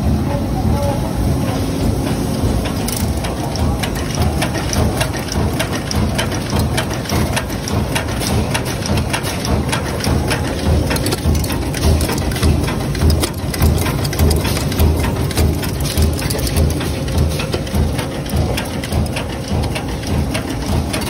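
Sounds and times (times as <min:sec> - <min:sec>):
machine low rumble: 0:00.0 - 0:21.0
metallic machine clicks: 0:02.3 - 0:21.0.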